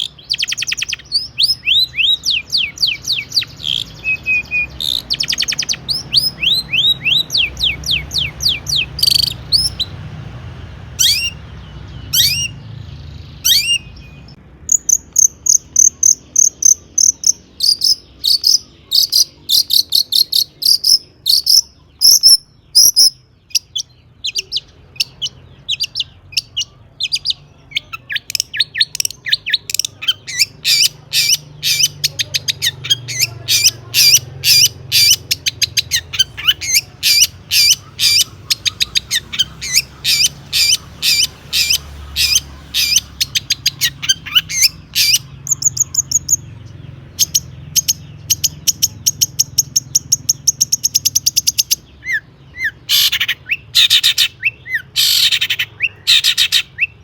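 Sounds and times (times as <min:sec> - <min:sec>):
shrike singing: 0:00.0 - 0:57.0.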